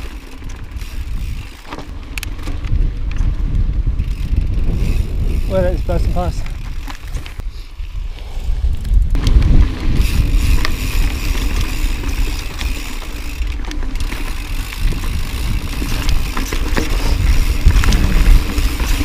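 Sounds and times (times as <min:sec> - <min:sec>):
bike frame clicks and knocks: 0:00.0 - 0:07.5, 0:08.6 - 0:19.0
bike tyres rolling over rocky trail: 0:00.0 - 0:19.0
wind rumble on microphone: 0:00.0 - 0:19.0.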